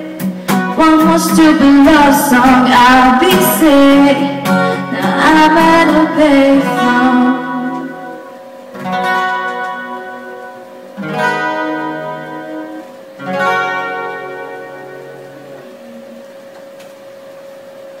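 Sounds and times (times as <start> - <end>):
acoustic guitar strummed chords: 0.0 - 16.4.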